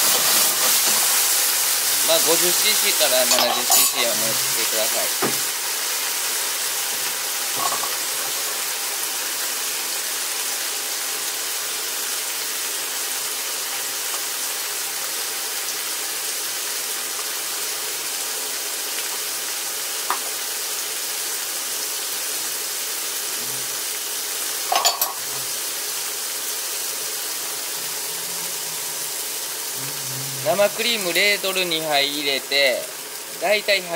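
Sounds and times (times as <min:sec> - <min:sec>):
food sizzling in a frying pan: 0:00.0 - 0:33.9.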